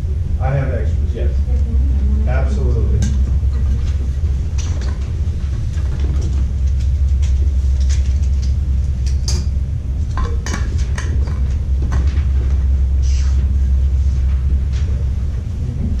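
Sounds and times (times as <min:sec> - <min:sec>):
low rumble of room noise: 0:00.0 - 0:16.0.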